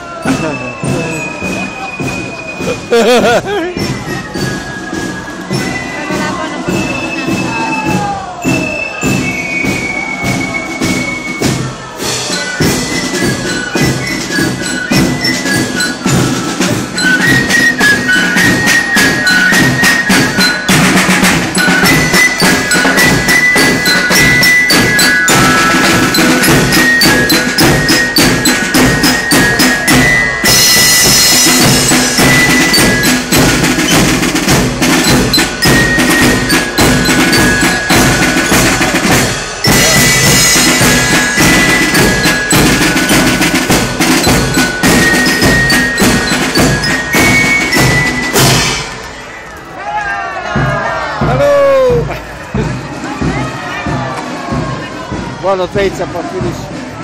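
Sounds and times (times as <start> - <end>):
bell lyre: 0.0 - 9.8, 12.0 - 49.4
flutes playing melody: 0.0 - 49.4
snare drums: 0.0 - 49.4, 50.3 - 57.0.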